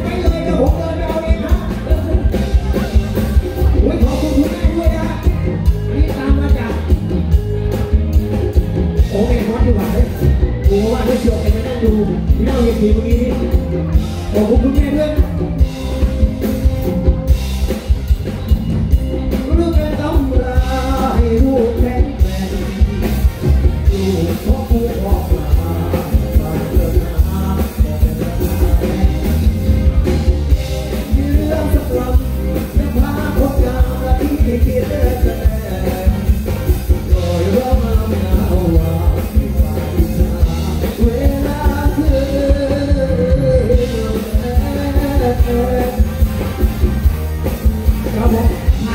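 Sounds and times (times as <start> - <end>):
man singing into a microphone: 0.0 - 7.3, 8.9 - 17.1, 19.3 - 47.1, 47.9 - 48.9
electric guitars: 0.0 - 48.9
keyboard: 0.0 - 48.9
steady drum beat: 0.0 - 48.9.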